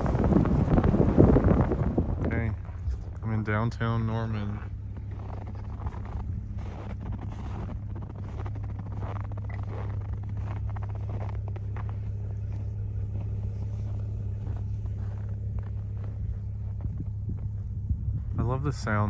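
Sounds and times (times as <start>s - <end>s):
snow crunching: 0.0s - 17.8s
truck engine droning: 0.0s - 19.0s.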